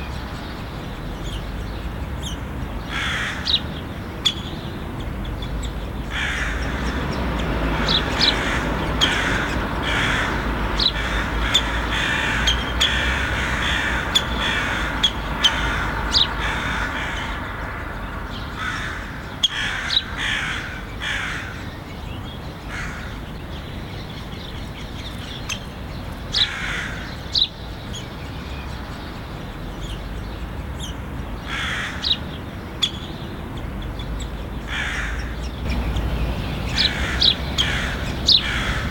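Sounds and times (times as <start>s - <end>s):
low traffic rumble: 0.0s - 38.9s
woodpeckers calling: 1.1s - 21.9s, 24.5s - 28.1s, 29.5s - 38.9s.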